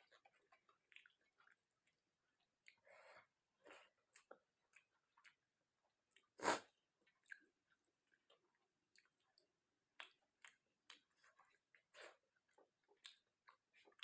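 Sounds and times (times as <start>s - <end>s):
person chewing: 0.0s - 5.5s, 6.1s - 14.0s.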